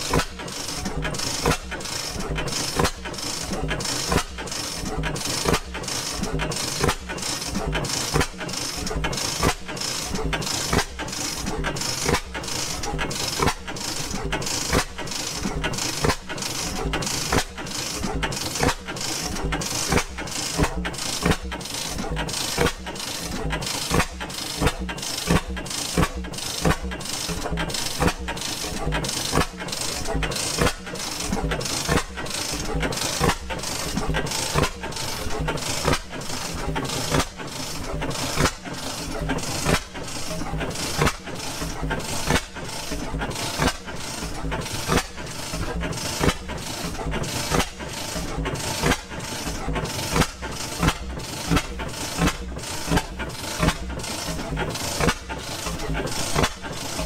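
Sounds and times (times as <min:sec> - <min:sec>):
engine exhaust beats: 0:00.0 - 0:57.0.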